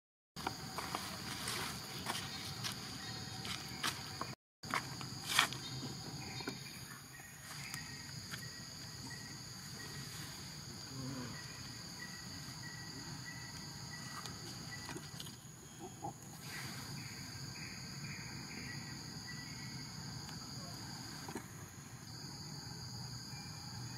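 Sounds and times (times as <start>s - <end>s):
high-pitched insect chorus: 0.4s - 23.9s.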